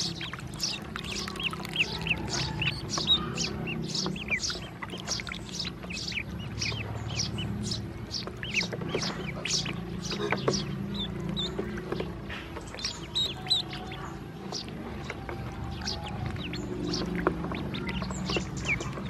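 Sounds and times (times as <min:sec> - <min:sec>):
ducklings peeping: 0:00.0 - 0:19.0.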